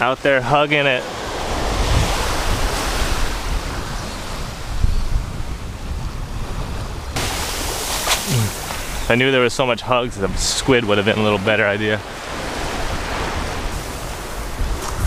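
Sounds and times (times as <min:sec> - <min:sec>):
ocean surf on sandy beach: 0:00.0 - 0:15.0
wind rumbling on microphone: 0:01.1 - 0:11.3, 0:12.0 - 0:15.0.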